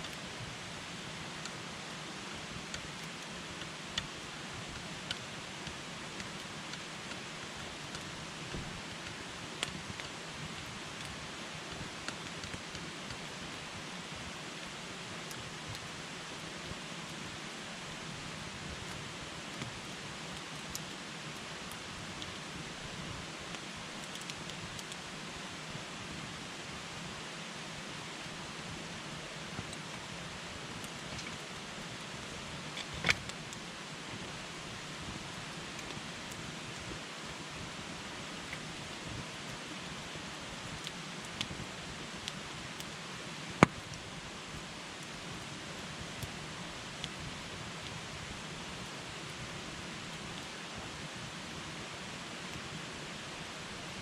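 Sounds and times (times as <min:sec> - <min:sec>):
campfire burning with crackles: 0:00.0 - 0:54.0.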